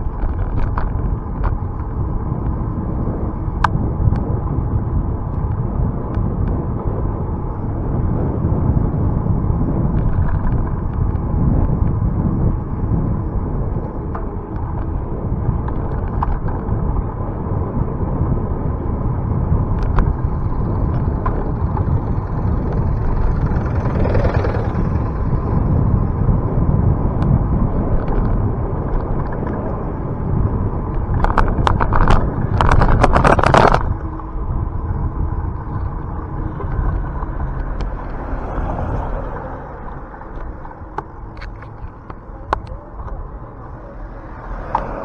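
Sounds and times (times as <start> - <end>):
bicycle riding rumble: 0.0 - 45.0
wind on microphone: 0.0 - 45.0.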